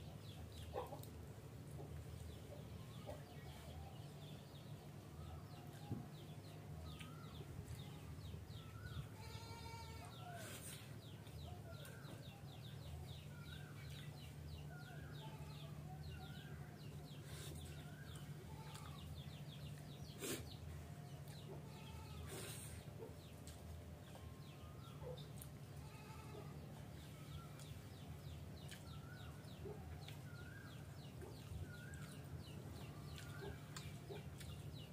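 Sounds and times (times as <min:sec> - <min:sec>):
birds chirping: 0:02.2 - 0:34.9.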